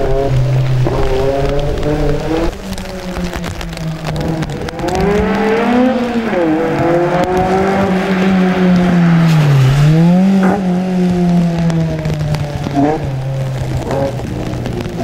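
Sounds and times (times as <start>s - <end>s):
racing car engine running hard: 0.0s - 14.9s.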